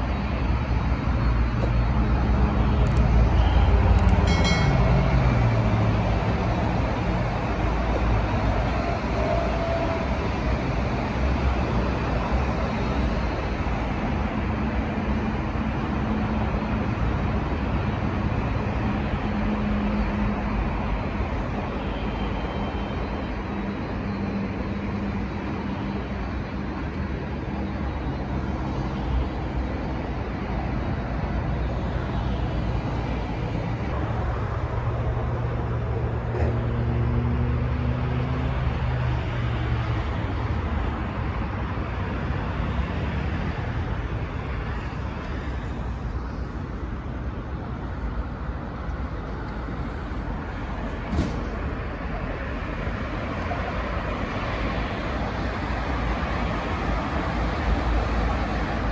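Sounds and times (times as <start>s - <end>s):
road traffic engine hum: 0.0s - 58.9s.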